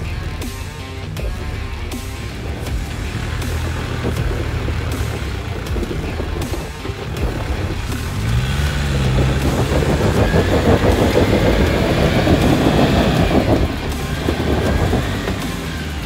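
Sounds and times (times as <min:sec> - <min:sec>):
off-road vehicle engine revving: 0:00.0 - 0:16.0
tyres spinning in loose dirt: 0:02.1 - 0:16.0.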